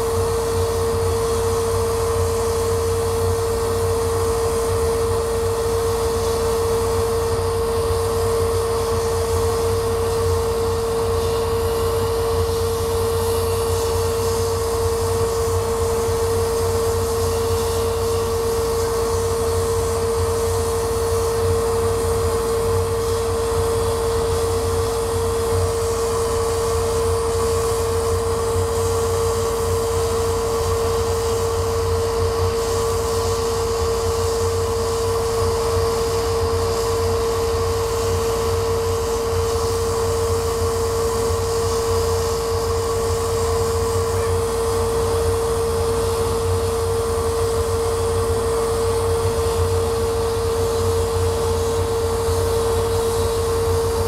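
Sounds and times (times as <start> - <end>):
laser cutter fans rushing: 0.0 - 54.0.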